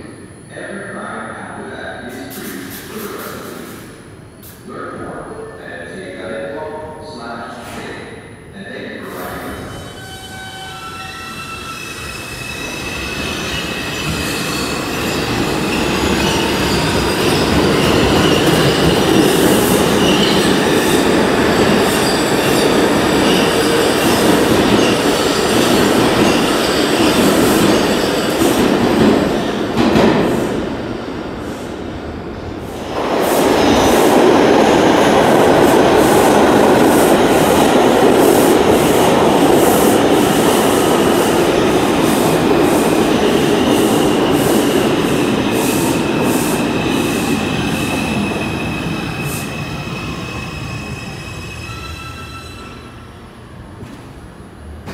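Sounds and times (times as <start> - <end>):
subway train rumbling: 0.0 - 54.9.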